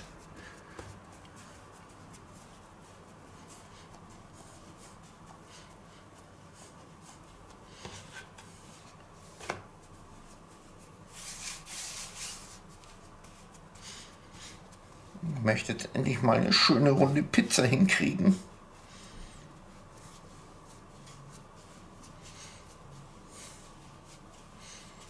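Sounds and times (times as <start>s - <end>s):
hands rubbing dough on board: 0.0s - 25.0s.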